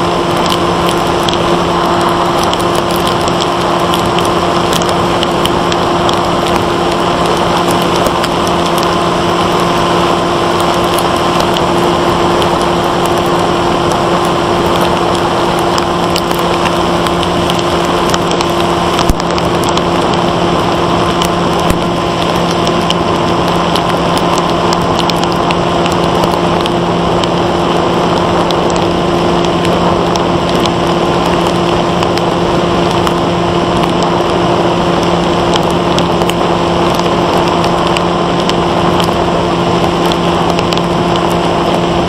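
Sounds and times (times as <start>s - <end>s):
electric motor and propeller whirring: 0.0s - 42.0s
rush of airflow: 0.0s - 42.0s.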